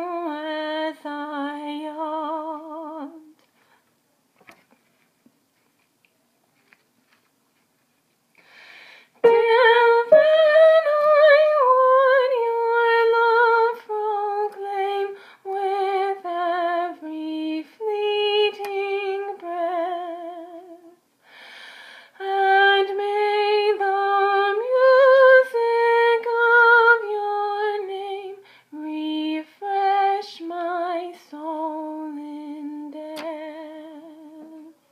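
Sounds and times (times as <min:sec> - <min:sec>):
woman singing unaccompanied: 0:00.0 - 0:03.4, 0:09.2 - 0:21.0, 0:22.2 - 0:34.9.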